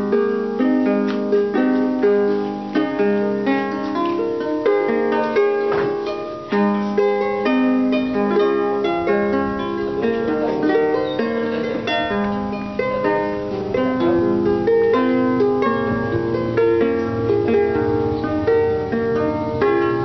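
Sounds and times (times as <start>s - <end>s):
harp plucked melody: 0.0s - 20.0s.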